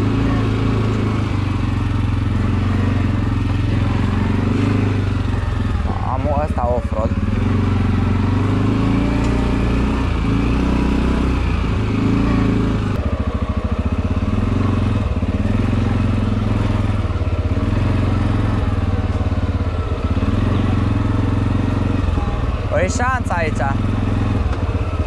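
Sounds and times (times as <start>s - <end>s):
atv engine running under load: 0.0s - 25.0s.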